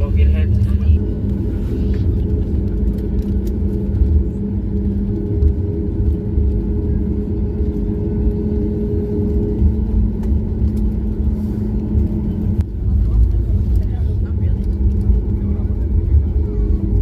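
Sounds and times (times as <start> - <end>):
airliner engines droning: 0.0 - 17.0
steady hum: 0.0 - 17.0.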